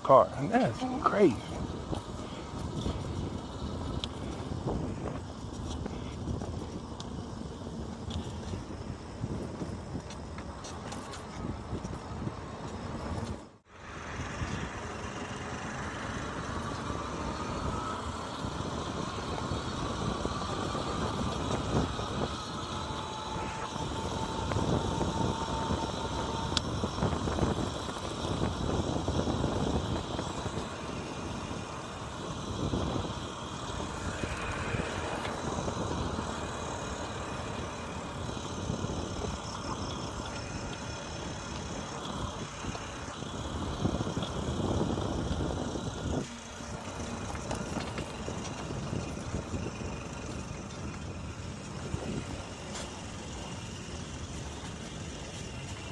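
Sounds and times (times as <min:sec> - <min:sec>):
faint rising whine: 0:00.0 - 0:55.9
road and wind rumble: 0:00.0 - 0:55.9.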